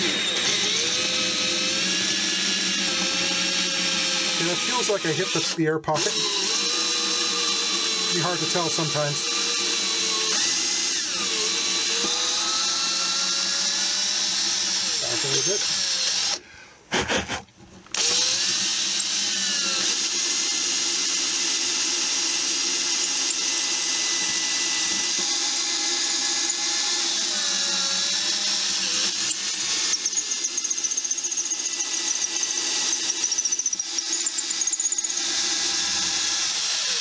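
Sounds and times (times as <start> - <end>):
power drill boring into wood: 0.0 - 16.4, 17.9 - 37.0.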